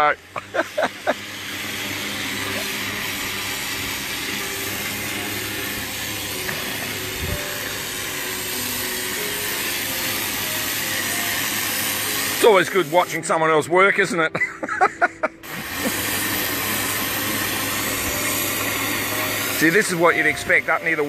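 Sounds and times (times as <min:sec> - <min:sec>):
pressure washer spray hissing: 0:00.0 - 0:21.0.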